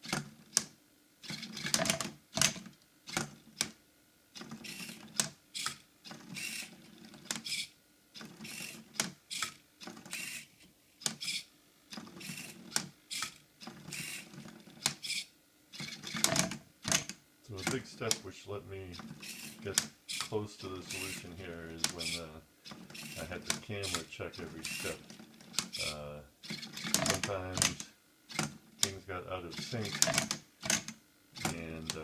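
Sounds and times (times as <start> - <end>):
servo whirs: 0.0 - 3.8, 4.4 - 18.2, 18.9 - 32.0.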